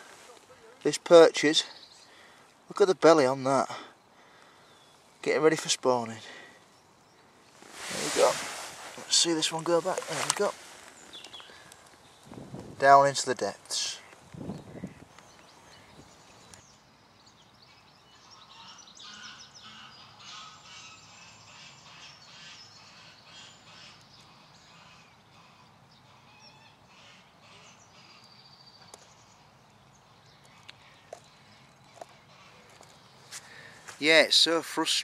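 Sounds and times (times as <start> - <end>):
wild birds chirping: 0.0 - 35.0.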